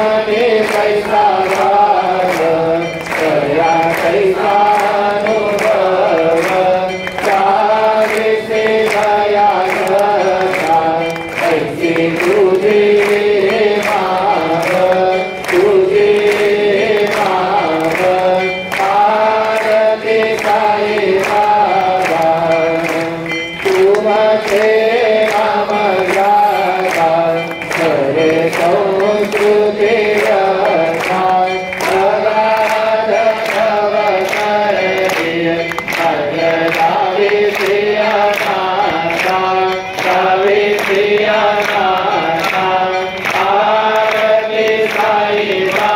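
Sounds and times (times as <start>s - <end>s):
group chanting a hymn: 0.0s - 45.9s
sharp percussive strikes: 0.0s - 45.9s.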